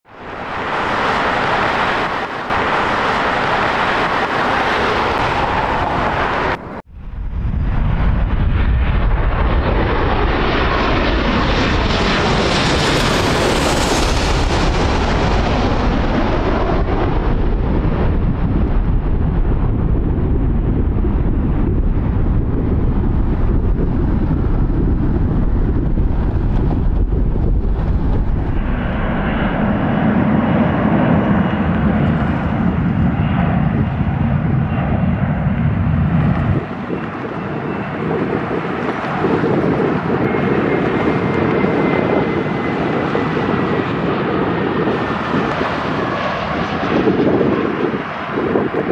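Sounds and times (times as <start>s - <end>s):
airliner rolling on runway: 0.1s - 48.9s
jet airliner engines roaring: 0.1s - 48.9s.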